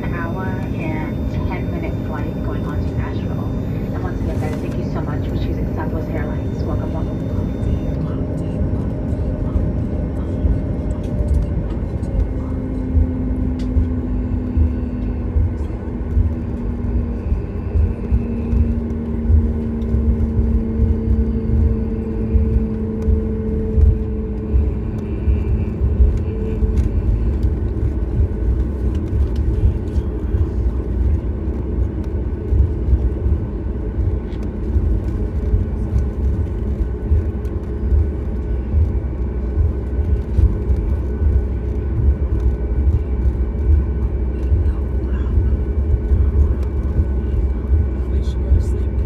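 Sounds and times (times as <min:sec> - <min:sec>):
airplane cabin engine rumble: 0:00.0 - 0:49.0
low steady tones: 0:00.0 - 0:49.0.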